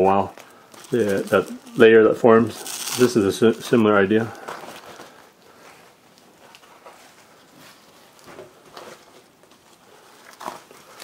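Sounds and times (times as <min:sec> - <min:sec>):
hands rustling tofu skin: 0:00.2 - 0:01.9, 0:02.5 - 0:11.0.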